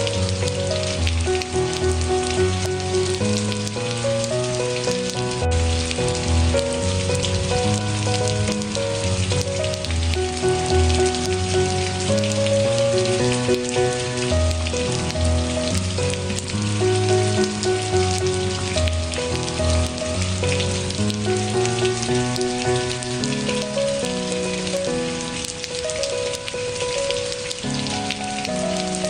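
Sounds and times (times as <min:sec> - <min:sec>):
rain falling: 0:00.0 - 0:29.0
slow background music: 0:00.0 - 0:29.0.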